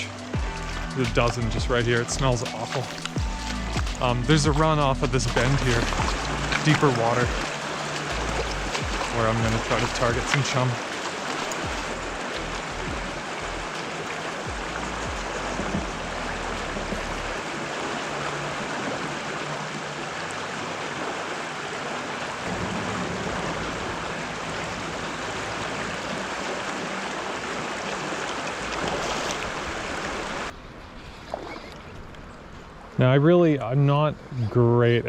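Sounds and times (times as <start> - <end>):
river flowing over rocks: 0.0 - 33.0.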